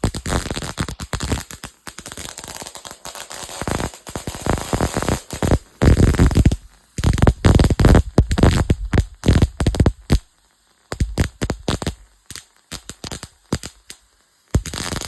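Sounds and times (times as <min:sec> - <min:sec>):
high-voltage arcs snapping: 0:00.0 - 0:10.3, 0:10.9 - 0:14.0, 0:14.6 - 0:15.0.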